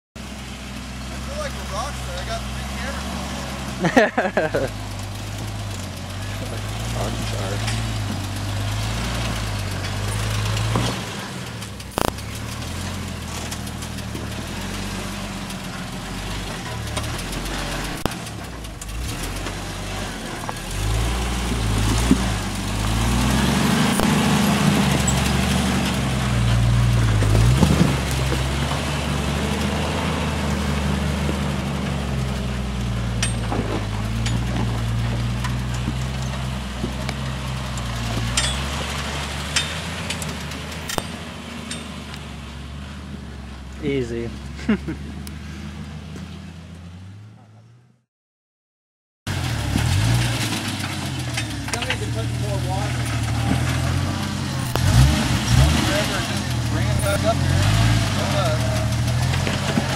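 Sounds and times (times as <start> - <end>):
engine running at low speed: 0.2 - 48.0, 49.3 - 59.9.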